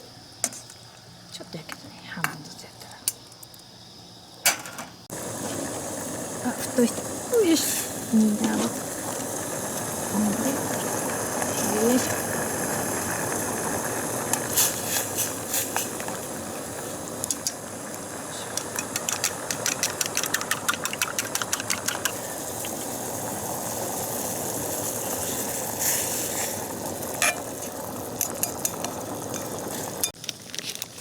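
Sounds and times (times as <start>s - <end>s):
soup boiling with hiss: 0.0s - 31.0s.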